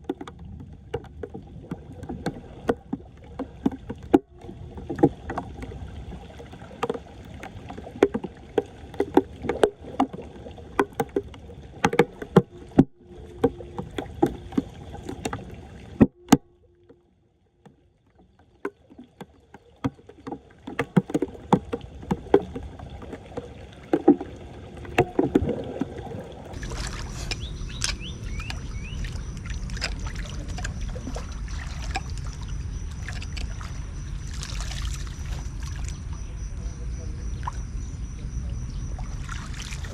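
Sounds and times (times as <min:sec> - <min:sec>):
water rushing with low rumble: 0:00.0 - 0:39.9
water splashing and sloshing: 0:00.0 - 0:39.9.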